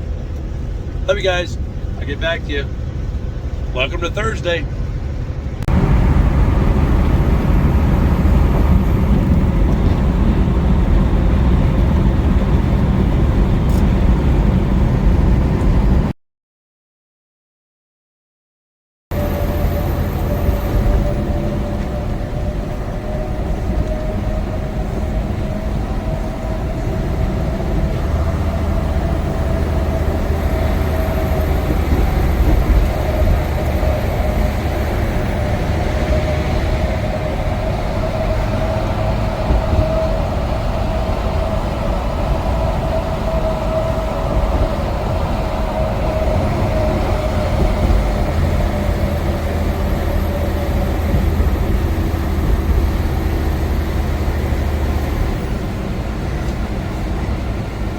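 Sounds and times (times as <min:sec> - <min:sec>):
road noise: 0:00.0 - 0:16.1, 0:19.1 - 0:57.9
truck diesel engine drone: 0:00.0 - 0:16.1, 0:19.1 - 0:57.9.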